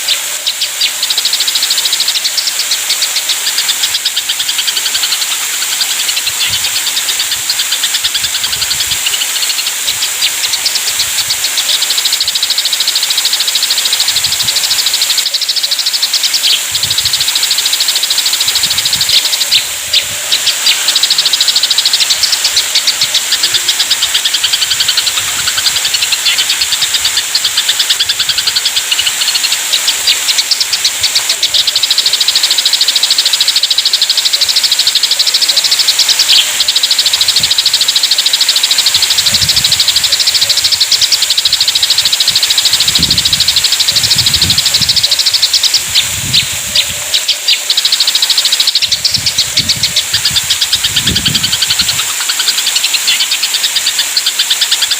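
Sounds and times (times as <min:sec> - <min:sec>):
sparrows chattering: 0:00.0 - 0:54.9
steady high hiss: 0:00.0 - 0:54.9.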